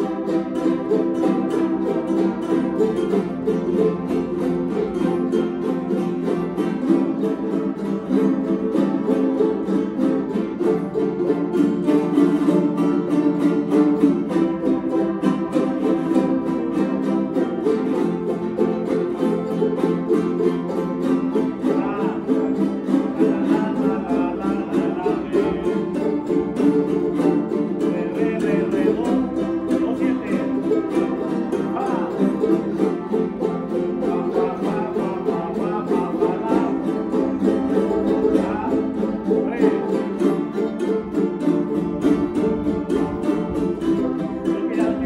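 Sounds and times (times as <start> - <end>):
small guitars strummed fast: 0.0 - 45.0.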